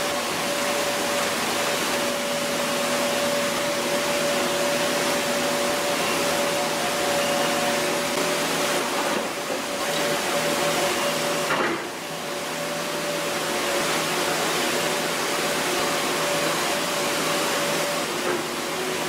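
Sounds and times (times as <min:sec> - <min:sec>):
excavator engine drone: 0:00.0 - 0:19.0.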